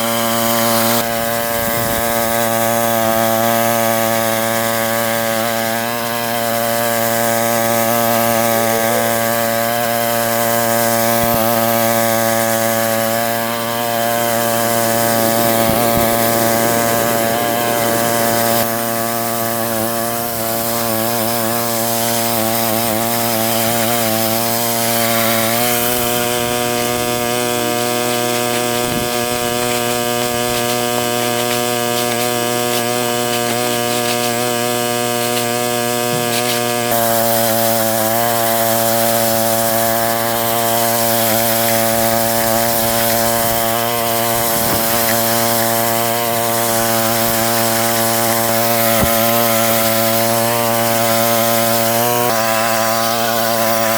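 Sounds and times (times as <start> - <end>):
small petrol engine running: 0.0 - 53.9.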